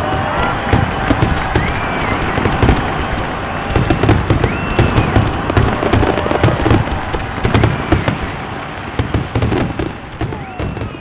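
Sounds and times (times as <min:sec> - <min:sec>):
fireworks crackling and popping: 0:00.0 - 0:11.0
fireworks low booms: 0:00.0 - 0:11.0
fireworks whistling: 0:00.0 - 0:11.0.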